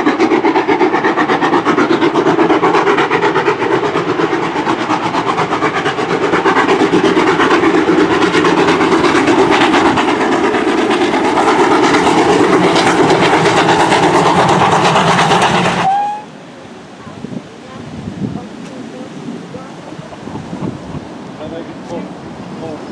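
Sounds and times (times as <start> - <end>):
steam locomotive exhaust beats: 0.0 - 22.9.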